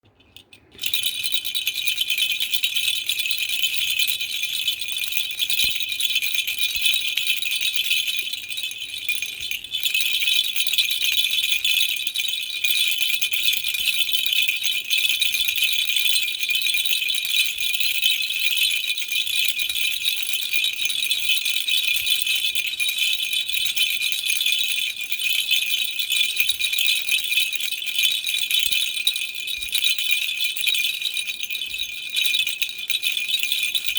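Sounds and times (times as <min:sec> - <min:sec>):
toy rattle shaken: 0:00.2 - 0:33.9.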